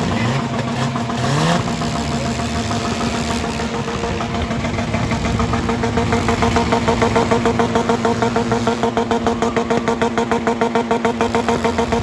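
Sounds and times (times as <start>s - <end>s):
car engines pulsing: 0.0s - 12.0s.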